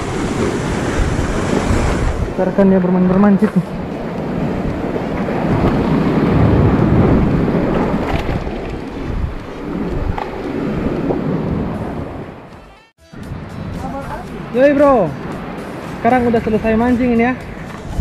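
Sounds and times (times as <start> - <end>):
wind buffeting microphone: 0.0 - 12.5, 13.2 - 18.0
surf: 0.0 - 18.0.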